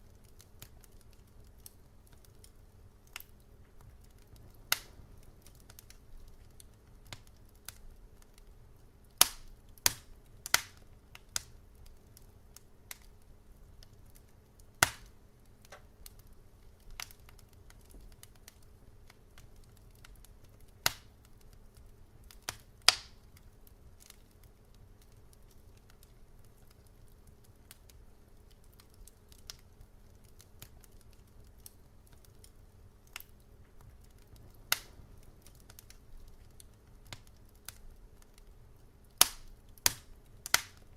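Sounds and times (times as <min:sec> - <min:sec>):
low steady rumble: 0:00.0 - 0:40.9
wood fire crackling: 0:00.0 - 0:40.9.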